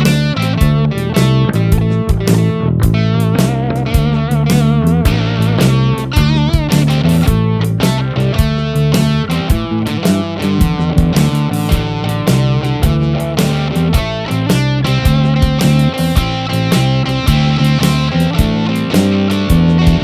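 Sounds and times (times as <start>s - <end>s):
electric guitar instrumental music: 0.0s - 20.0s.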